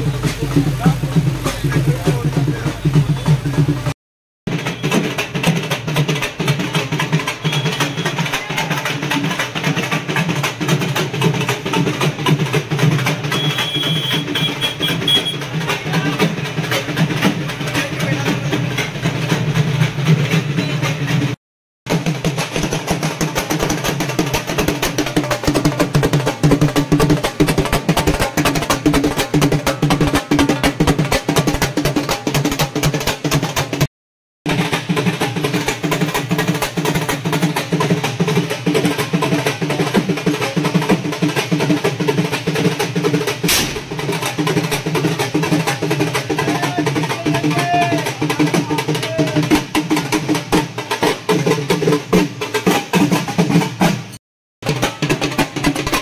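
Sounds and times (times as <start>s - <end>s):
fast drumming: 0.0s - 33.9s, 34.5s - 56.0s
music: 4.5s - 33.8s, 34.5s - 56.0s.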